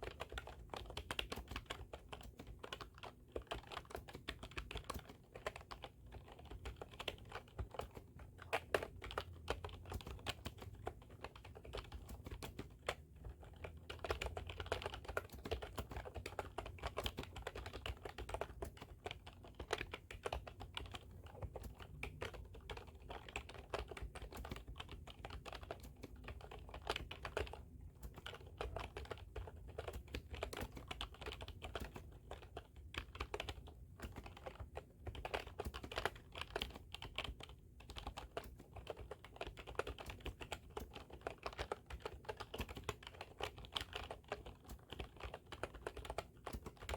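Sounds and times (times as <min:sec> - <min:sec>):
fast typing on computer keyboard: 0:00.0 - 0:46.9.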